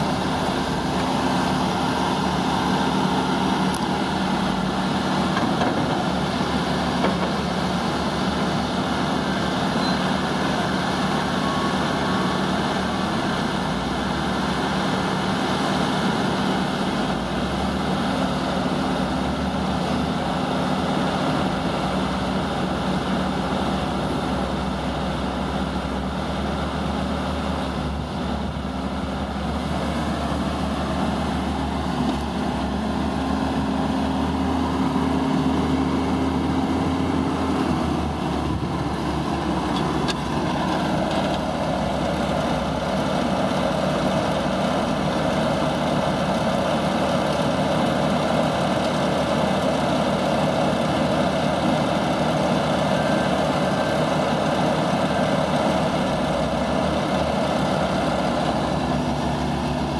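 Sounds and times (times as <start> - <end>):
loader engine running: 0.0 - 59.9.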